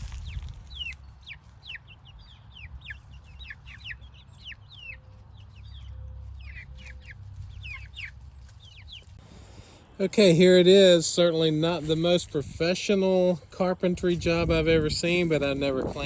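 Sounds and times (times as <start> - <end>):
chicks peeping: 0.0 - 9.5, 10.2 - 16.0.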